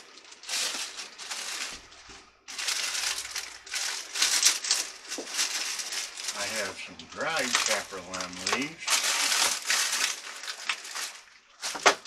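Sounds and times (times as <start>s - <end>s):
packets rustling and crinkling: 0.0s - 12.0s.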